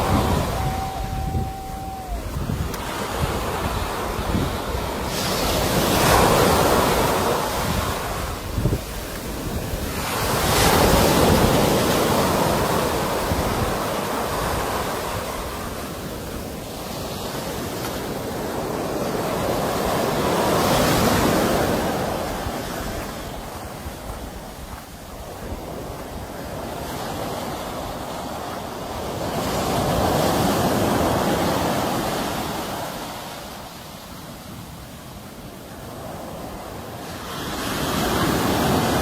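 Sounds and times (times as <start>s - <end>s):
sea waves breaking: 0.0s - 39.0s.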